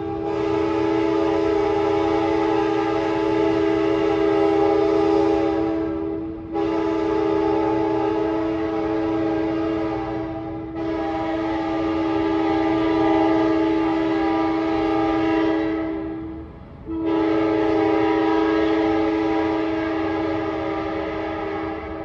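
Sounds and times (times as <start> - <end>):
train air horn blasts: 0.0 - 22.0.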